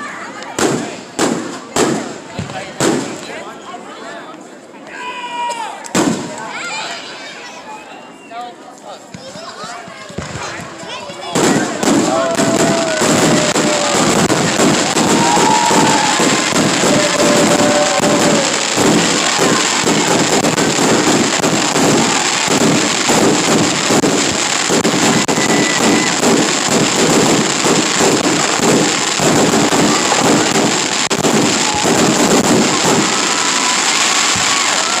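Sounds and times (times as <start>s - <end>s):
fireworks bangs and crackling: 0.1s - 3.5s, 5.9s - 7.0s, 9.1s - 35.0s.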